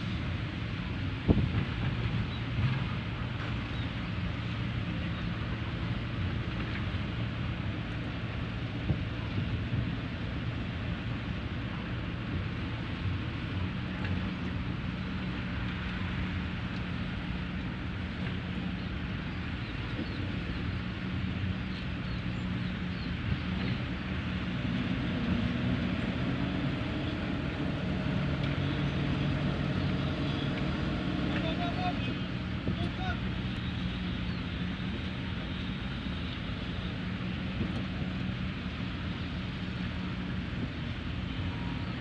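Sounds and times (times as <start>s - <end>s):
diesel engine of heavy machinery: 0.0s - 42.0s.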